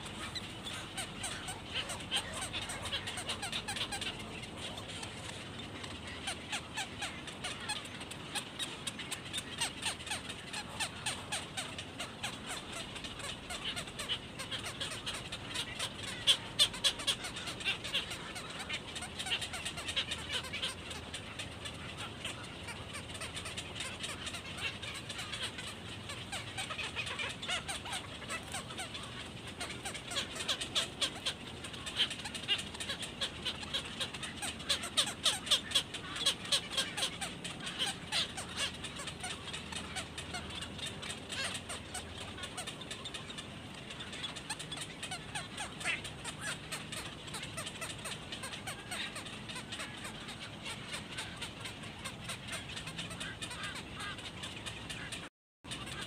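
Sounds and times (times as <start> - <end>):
rapid ticking bird calls: 0.0 - 56.0.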